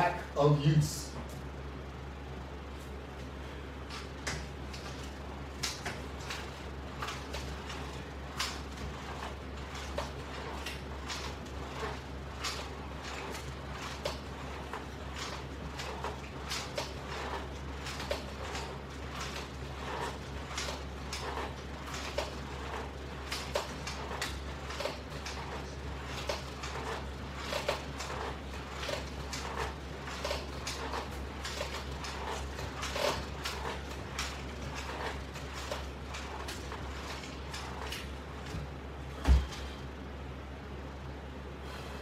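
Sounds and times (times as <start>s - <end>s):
low electrical hum: 0.0s - 42.0s
exercise equipment clicking and creaking: 2.7s - 40.0s.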